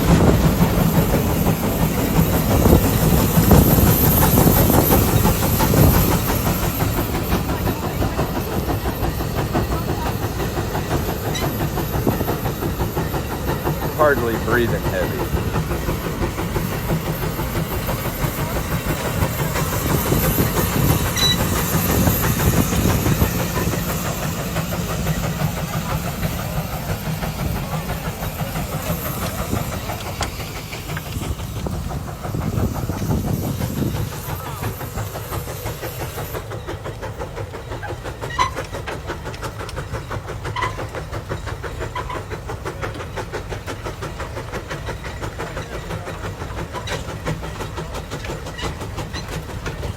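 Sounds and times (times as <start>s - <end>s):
steam engine exhaust beating: 0.0s - 49.9s
steam hissing: 0.0s - 49.9s.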